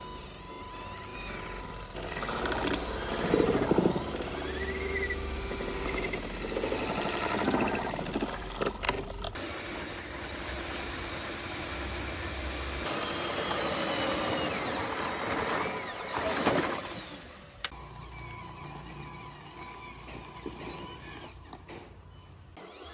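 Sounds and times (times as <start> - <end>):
toy machine motor whine: 0.0 - 22.9.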